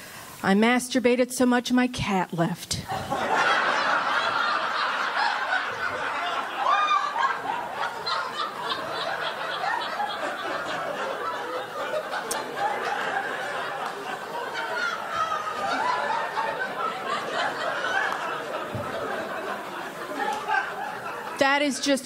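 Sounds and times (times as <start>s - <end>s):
audience laughing: 2.9s - 22.0s.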